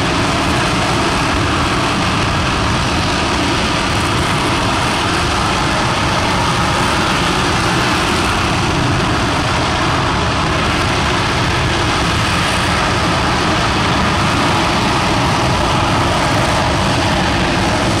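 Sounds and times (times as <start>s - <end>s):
rocket engine roaring: 0.0s - 18.0s.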